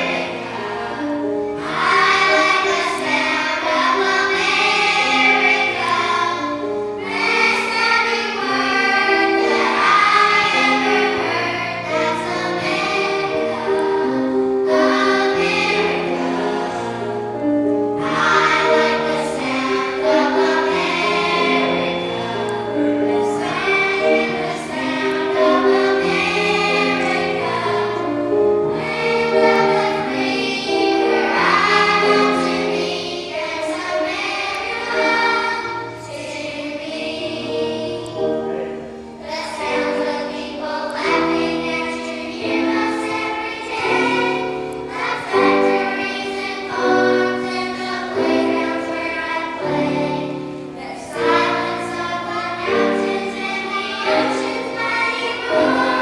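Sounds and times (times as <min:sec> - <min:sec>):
sustained low accompaniment: 0:00.0 - 0:46.5
children's choir singing: 0:00.0 - 0:56.0.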